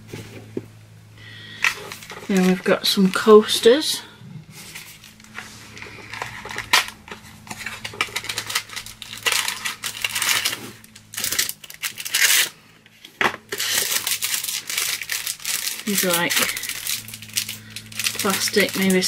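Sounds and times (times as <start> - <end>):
packaging crinkling and rustling: 1.5 - 3.9, 4.5 - 19.0.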